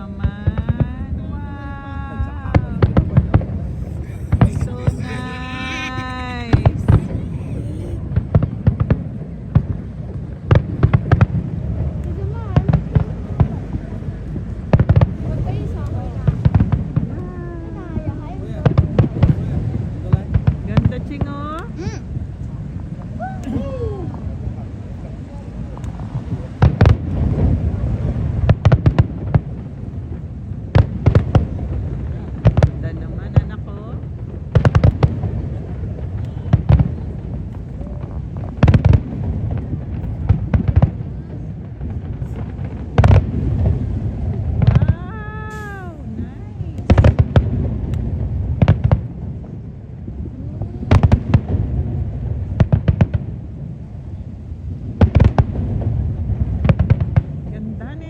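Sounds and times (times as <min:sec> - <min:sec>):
low rumble: 0:00.0 - 0:58.0
fireworks bangs: 0:00.2 - 0:23.5, 0:24.1 - 0:58.0.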